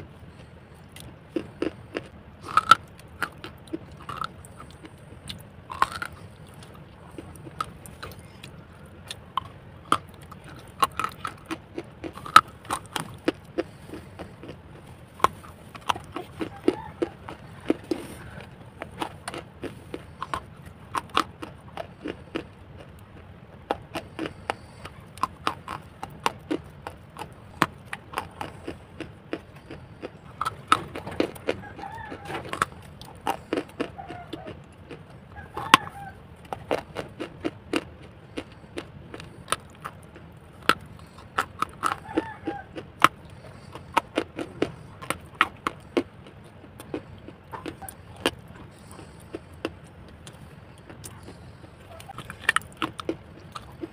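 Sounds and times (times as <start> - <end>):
crunching and chewing clay: 0.0 - 53.9.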